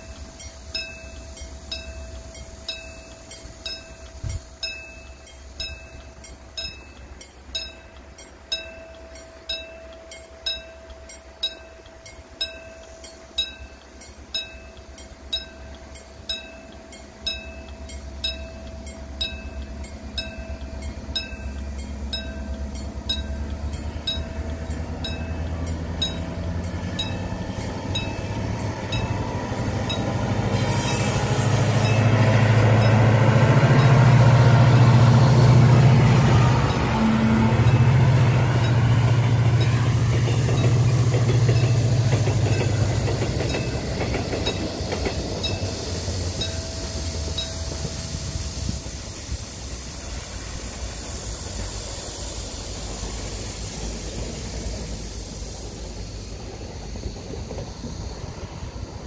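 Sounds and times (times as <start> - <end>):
wheels rolling over rail joints: 0.0 - 48.4
locomotive engine rumble: 0.0 - 59.0.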